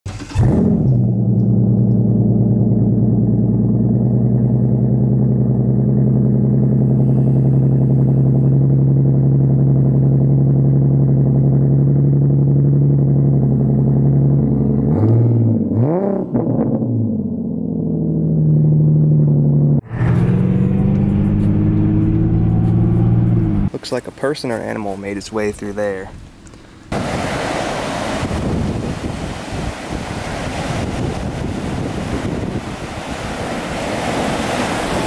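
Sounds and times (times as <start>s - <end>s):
car engine idling and revving: 0.1s - 23.8s, 25.6s - 35.0s.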